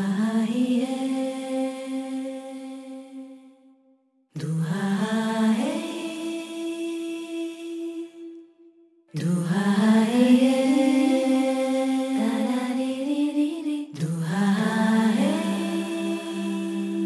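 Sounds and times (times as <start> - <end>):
slow vocal chant: 0.0 - 17.0.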